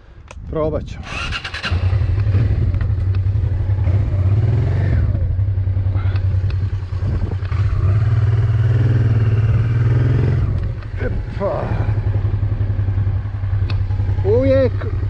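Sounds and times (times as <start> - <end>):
motorcycle engine at low revs: 1.0 - 15.0.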